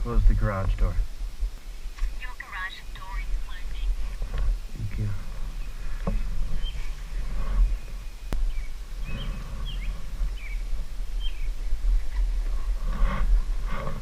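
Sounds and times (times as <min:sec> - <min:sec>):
birds chirping: 0:00.0 - 0:12.8
steady low rumble: 0:00.0 - 0:14.0.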